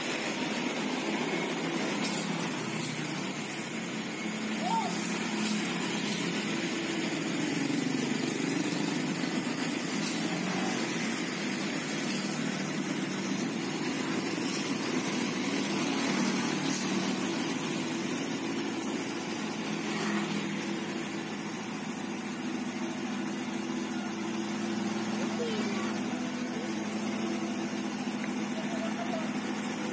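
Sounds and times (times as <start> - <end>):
heavy diesel engines droning: 0.0 - 29.9.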